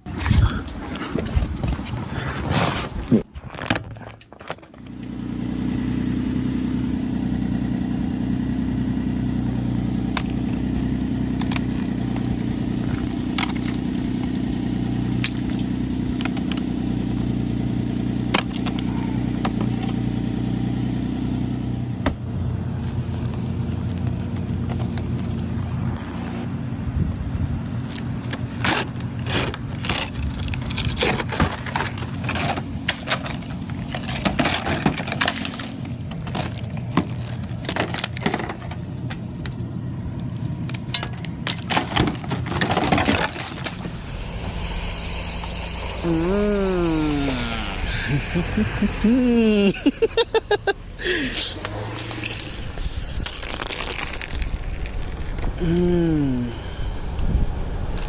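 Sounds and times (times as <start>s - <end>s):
vehicle engine running: 4.7s - 58.0s.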